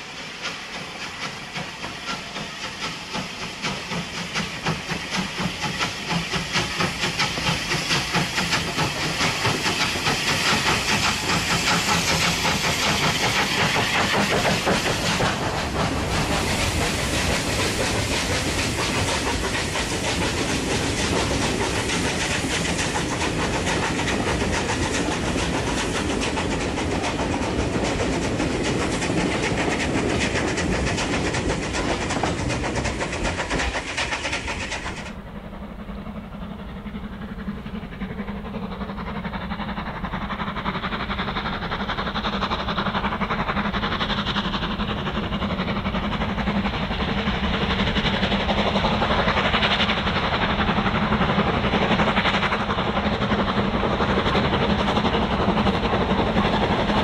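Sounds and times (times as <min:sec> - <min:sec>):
steam train running on rails: 0:00.0 - 0:57.0.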